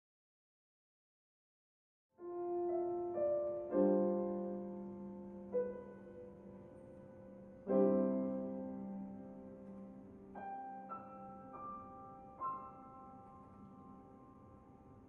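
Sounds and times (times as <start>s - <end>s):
slow piano notes and chords: 2.2s - 15.0s.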